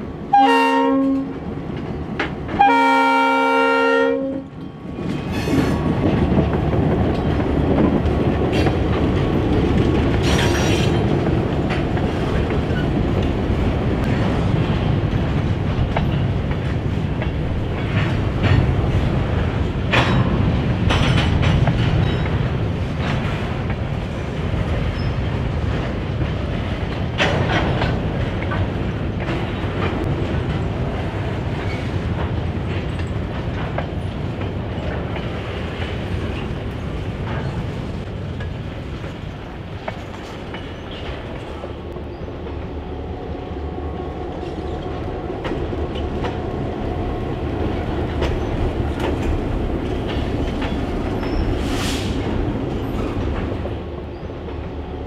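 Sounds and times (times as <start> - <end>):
freight train wheels clacking: 4.5 - 42.9, 44.1 - 55.0.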